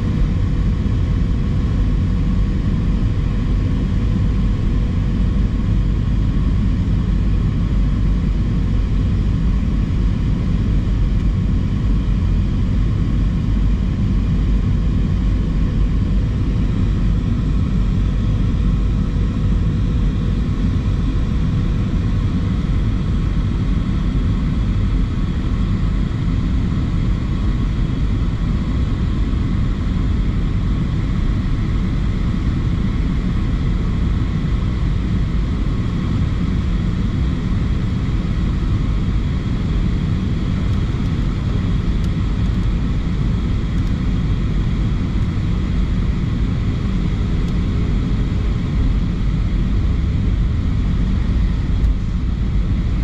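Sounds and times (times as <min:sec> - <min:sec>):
airplane cabin engine rumble: 0:00.0 - 0:53.0
faint steady hum: 0:00.0 - 0:53.0.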